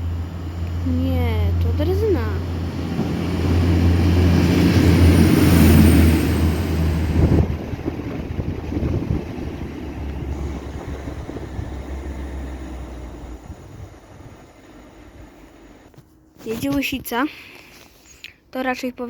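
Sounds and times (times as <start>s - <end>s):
rail vehicle engine drone passing: 0.0s - 16.3s.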